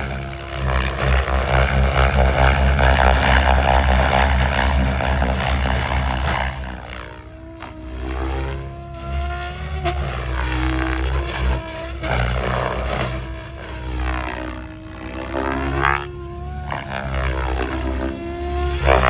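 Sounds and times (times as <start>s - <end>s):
model helicopter rotor and motor whine: 0.0s - 19.0s.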